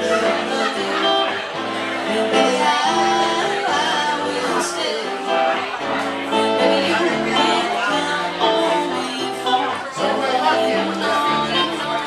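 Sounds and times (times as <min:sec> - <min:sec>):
acoustic guitar: 0:00.0 - 0:12.0
electric keyboard: 0:00.0 - 0:12.0
person singing: 0:00.0 - 0:12.0.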